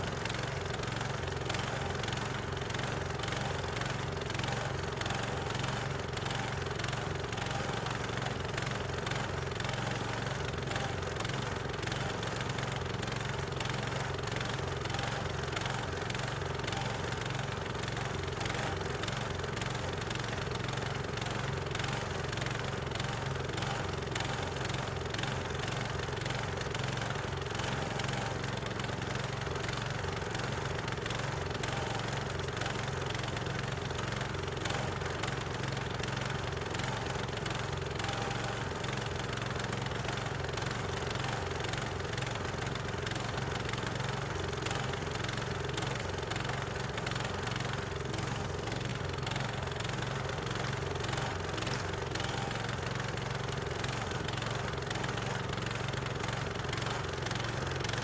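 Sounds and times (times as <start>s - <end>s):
sawmill gasoline engine running: 0.0s - 58.0s.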